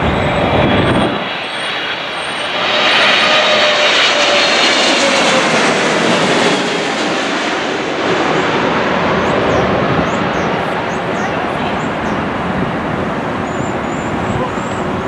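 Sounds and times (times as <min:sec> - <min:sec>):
jet engines passing close: 0:00.0 - 0:15.0.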